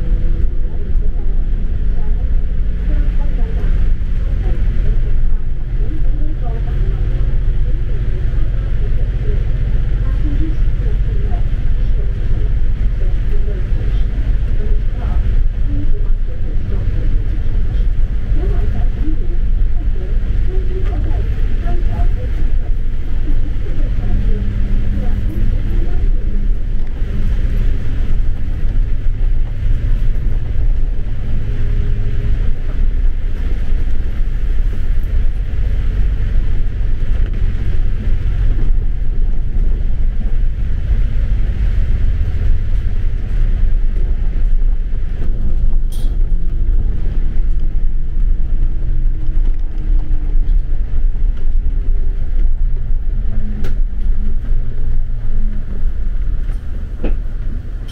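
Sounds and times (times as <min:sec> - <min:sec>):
vehicle rumble: 0:00.0 - 0:57.9.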